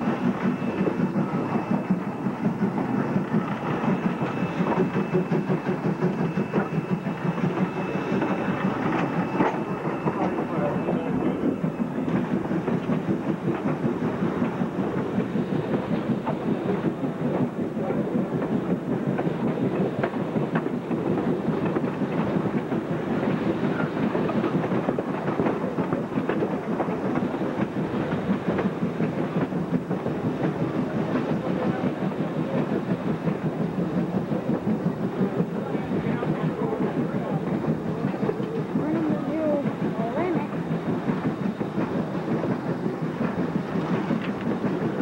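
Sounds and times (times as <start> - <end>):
steel wheels clicking on rail: 0.0 - 45.0
train rumble: 0.0 - 45.0.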